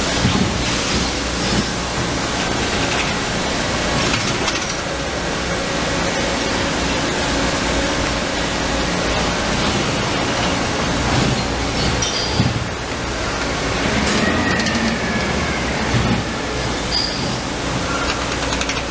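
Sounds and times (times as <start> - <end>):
punch press mechanical hum: 0.0 - 18.9.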